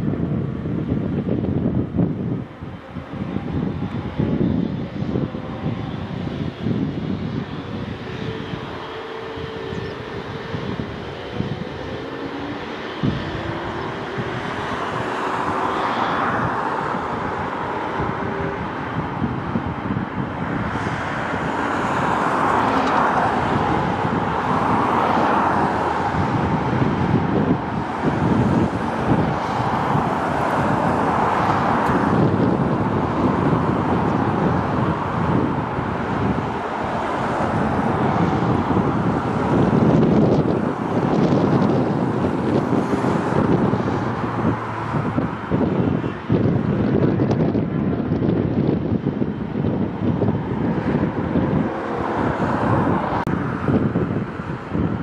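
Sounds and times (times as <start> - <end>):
jet engines rumbling: 0.0 - 55.0
wind buffeting microphone: 0.0 - 55.0.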